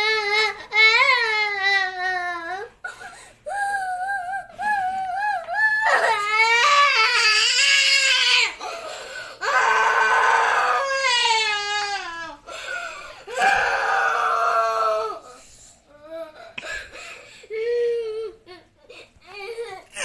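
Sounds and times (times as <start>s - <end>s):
girl crying: 0.0s - 20.0s.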